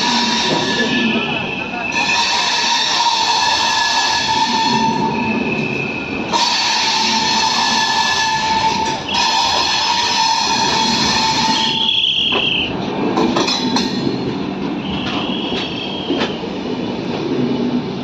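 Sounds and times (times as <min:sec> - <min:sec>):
train coaches rumbling: 0:00.0 - 0:18.0.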